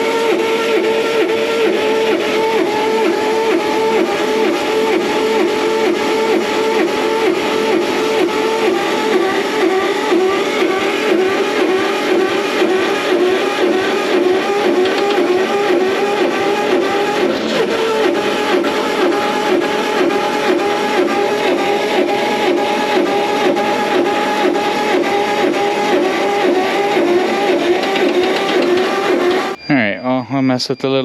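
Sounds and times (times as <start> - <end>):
starter cranking engine: 0.0 - 29.6.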